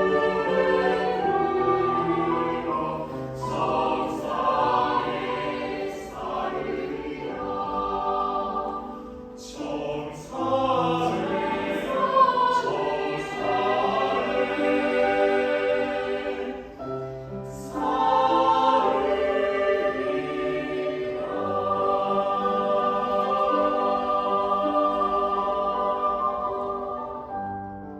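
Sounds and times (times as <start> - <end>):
choir singing sustained chords: 0.0 - 27.9.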